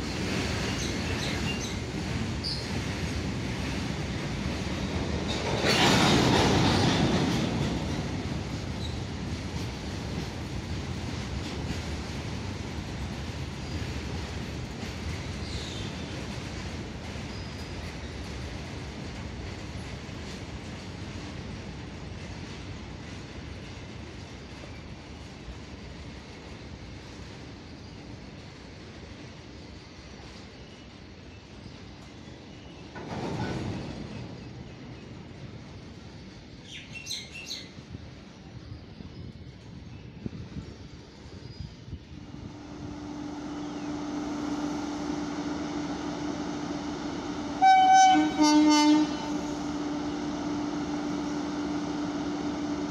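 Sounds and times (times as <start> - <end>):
train wheels rumbling and clacking: 0.0 - 52.9.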